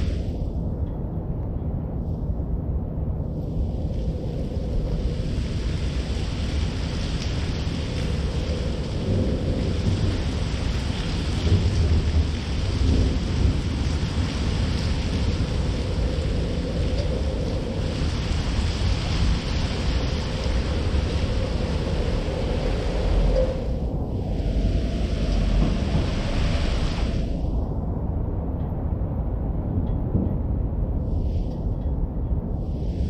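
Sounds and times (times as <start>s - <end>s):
rain on a street: 0.0s - 1.5s, 3.2s - 33.0s
low rumble: 0.0s - 33.0s.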